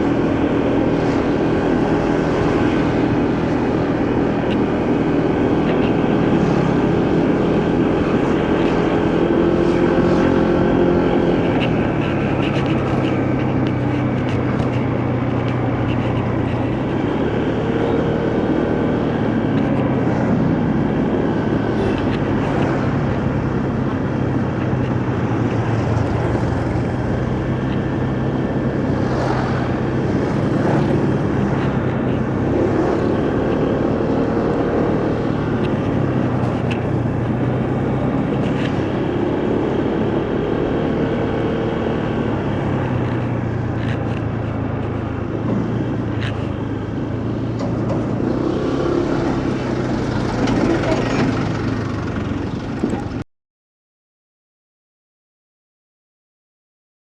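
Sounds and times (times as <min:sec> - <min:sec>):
motorcycle engine running: 0:00.0 - 0:53.2
wind and road noise: 0:00.0 - 0:53.2.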